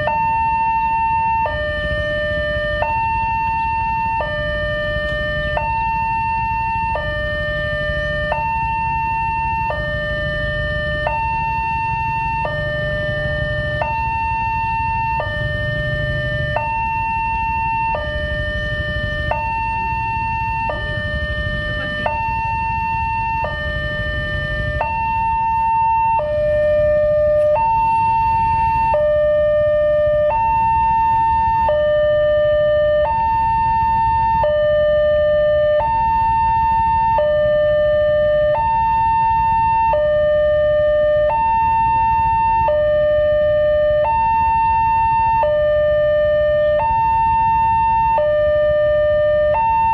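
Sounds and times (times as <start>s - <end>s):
level crossing alarm tones: 0.0s - 49.9s.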